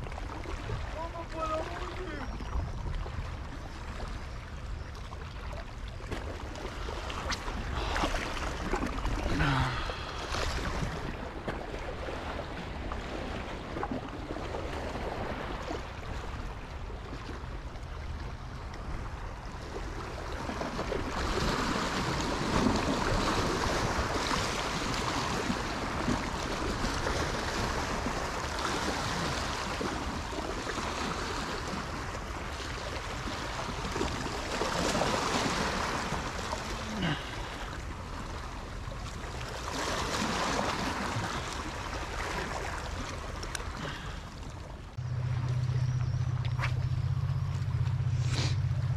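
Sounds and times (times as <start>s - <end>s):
waves breaking against rocks: 0.0s - 47.1s.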